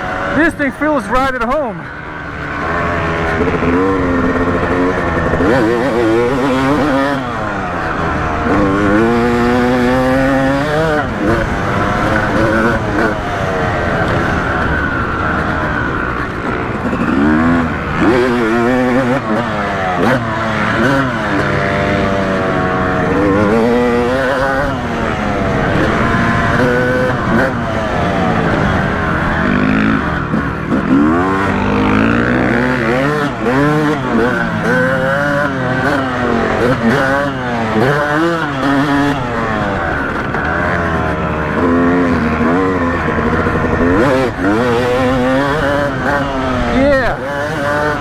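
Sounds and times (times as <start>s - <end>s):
two-stroke motorcycle engine: 0.0s - 48.0s.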